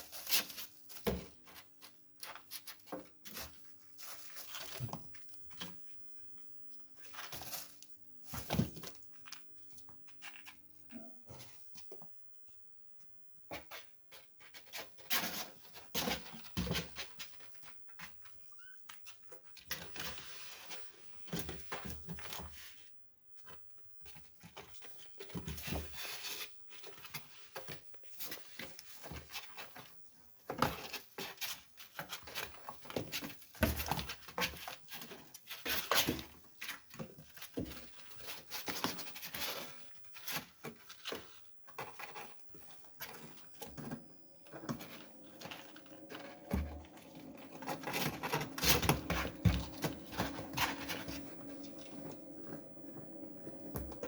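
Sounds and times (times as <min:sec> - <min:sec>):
kitten pattering and scuffling: 0:00.0 - 0:12.6, 0:13.4 - 0:54.0.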